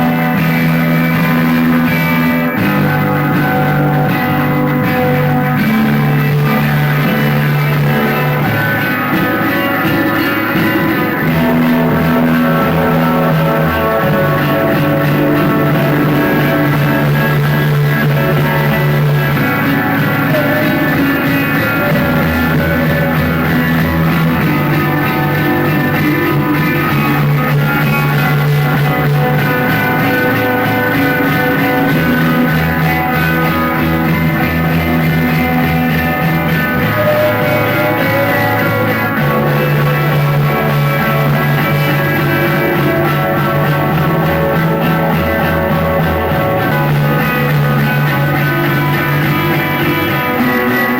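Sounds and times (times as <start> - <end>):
bass line: 0.0 - 50.9
sustained electric guitar: 0.0 - 50.9.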